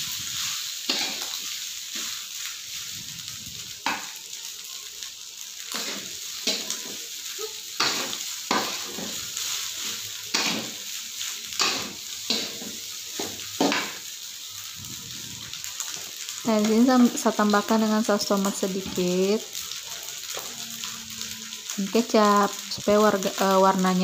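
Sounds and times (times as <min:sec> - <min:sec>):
rice sizzling in a wok: 0:00.0 - 0:24.0.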